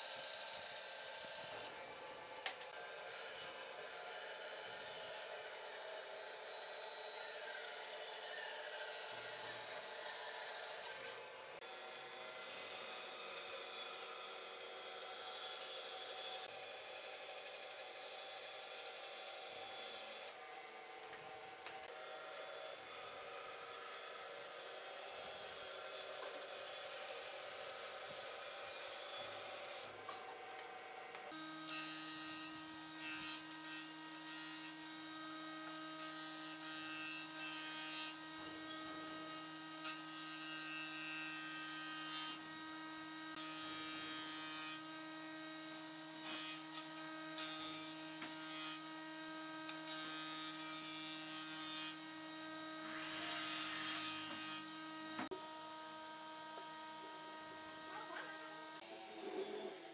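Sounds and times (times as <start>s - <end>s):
hissy wood cutting noise: 0.0s - 42.4s, 45.6s - 48.8s, 49.6s - 59.9s.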